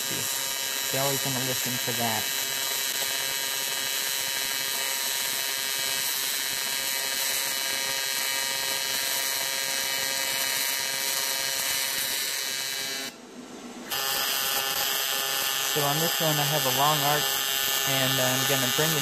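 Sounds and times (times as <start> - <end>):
welding arc raspy buzz: 0.0 - 13.2, 13.8 - 19.0.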